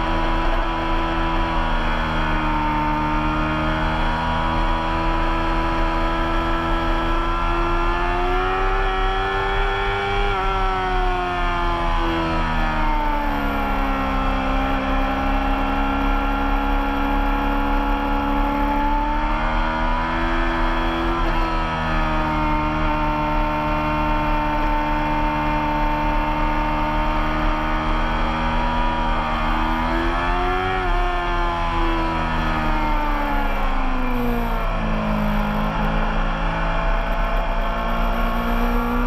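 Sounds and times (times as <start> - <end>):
racing motorcycle engine revving: 0.0 - 39.0.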